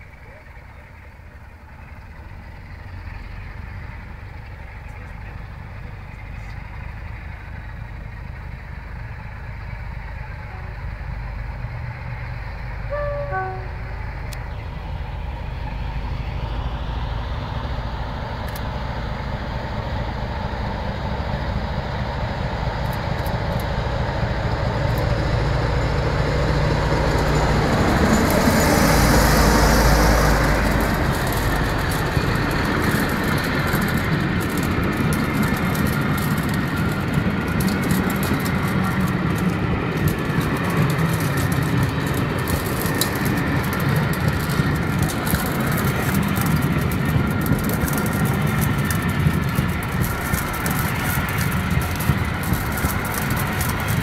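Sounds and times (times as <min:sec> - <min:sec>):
carriages rumbling: 0:00.0 - 0:54.0
diesel locomotive engine: 0:00.0 - 0:54.0
wheels clicking over rail joints: 0:00.0 - 0:54.0.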